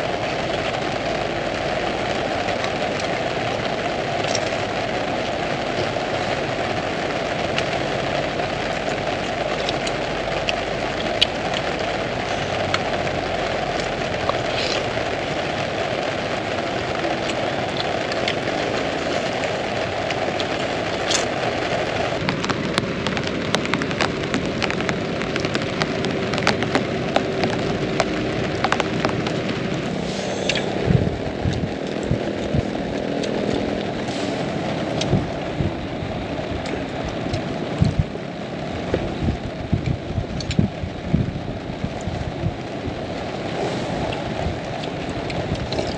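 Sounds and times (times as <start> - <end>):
heavy rain falling: 0.0 - 45.9
sharp raindrop hits: 0.0 - 45.9.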